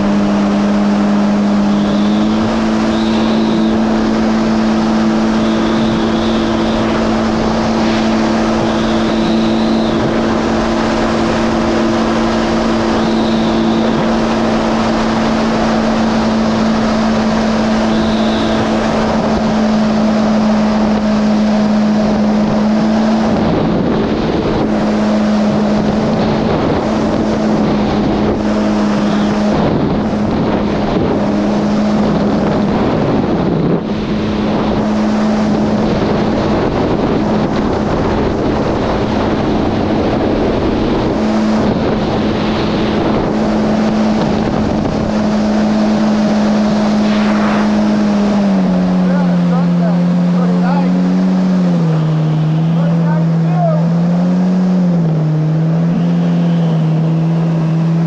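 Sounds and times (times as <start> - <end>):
personal watercraft engine cruising: 0.0 - 58.0
wind rushing over microphone: 0.0 - 58.0.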